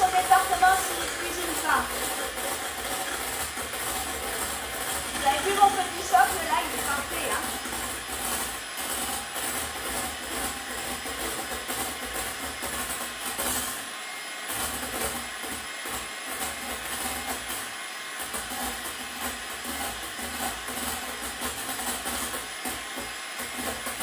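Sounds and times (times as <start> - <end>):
electric hand mixer whisking: 0.0 - 24.0.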